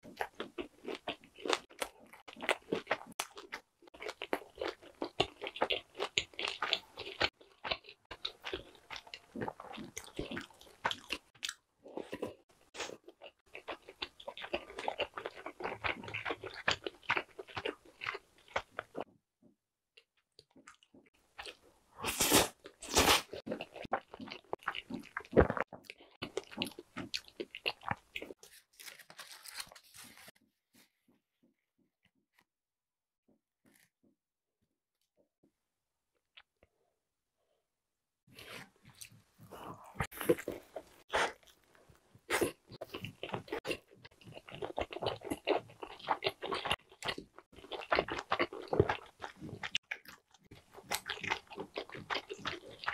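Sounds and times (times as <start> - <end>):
chewing crunchy food: 0.0 - 19.1, 20.4 - 30.3, 38.4 - 52.9.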